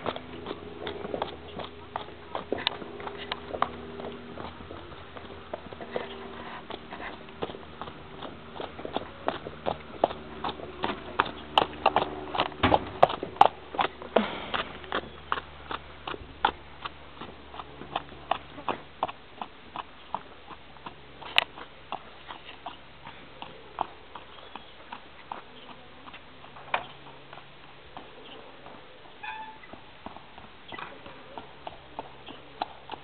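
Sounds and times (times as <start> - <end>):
horse hooves clip-clopping: 0.0 - 33.0.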